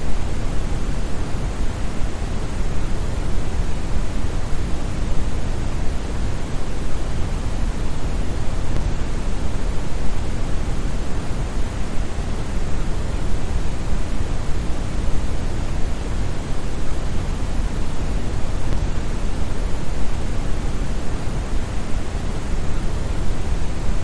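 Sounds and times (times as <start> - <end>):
brown noise deep hiss: 0.0 - 24.0.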